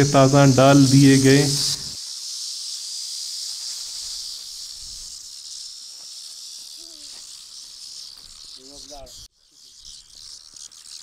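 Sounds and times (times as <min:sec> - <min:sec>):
cicadas buzzing: 0:00.0 - 0:11.0.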